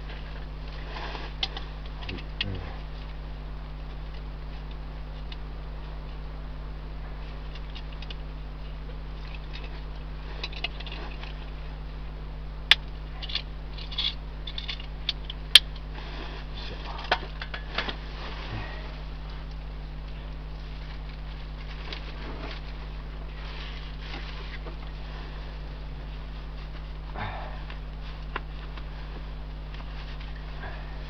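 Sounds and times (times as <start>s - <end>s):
charcoal crackling and popping: 0.0s - 31.0s
steady low hum: 0.0s - 31.0s.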